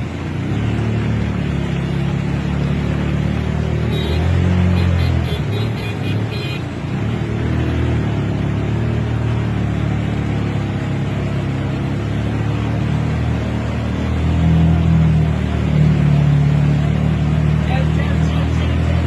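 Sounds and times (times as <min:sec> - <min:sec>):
street traffic: 0:00.0 - 0:19.0
vehicle engine running: 0:00.0 - 0:19.0.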